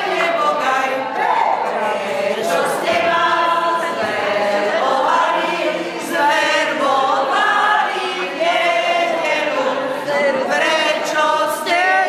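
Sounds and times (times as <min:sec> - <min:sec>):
people singing in chorus: 0:00.0 - 0:12.0.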